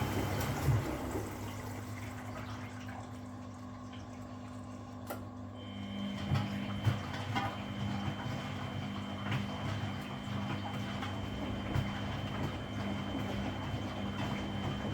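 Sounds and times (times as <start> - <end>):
washing machine motor hum: 0.0 - 14.9
water sloshing in washing machine: 0.0 - 14.9.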